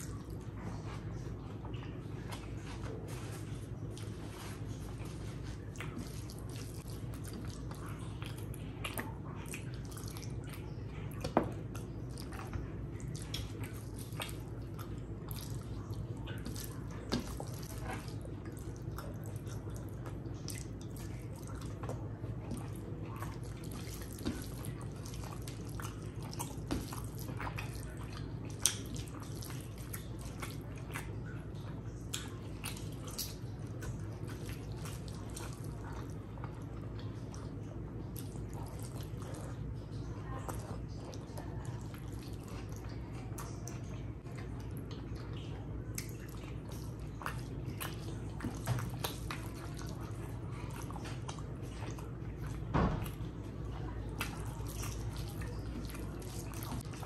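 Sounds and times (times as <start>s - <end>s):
chewing and lip-smacking: 0.0s - 57.0s
hand mixing wet food: 0.0s - 57.0s.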